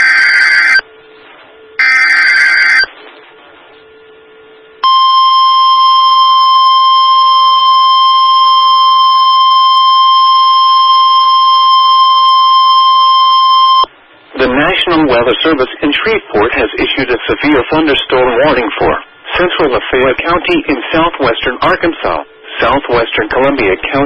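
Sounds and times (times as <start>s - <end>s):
loud steady attention tone: 0.0s - 24.0s.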